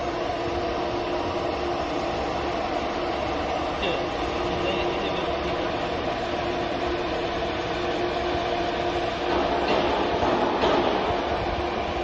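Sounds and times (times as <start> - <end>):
cnc router humming: 0.0 - 12.0.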